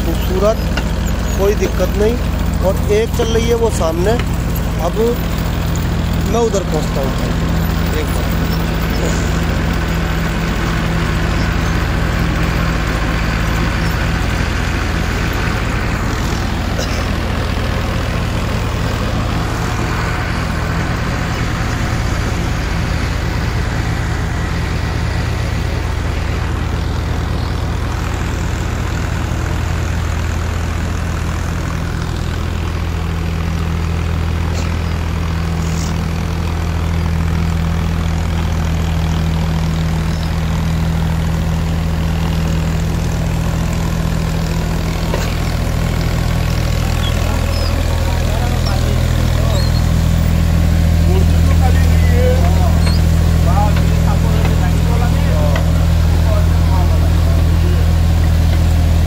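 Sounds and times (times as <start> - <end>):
brick making machine engine humming: 0.0 - 59.0.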